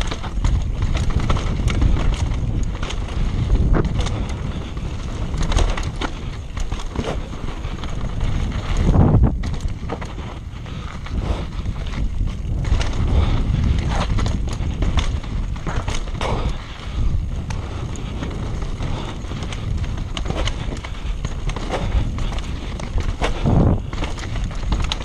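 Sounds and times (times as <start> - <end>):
bike clattering over rocks: 0.0 - 25.0
tyres rumbling on dirt trail: 0.0 - 25.0.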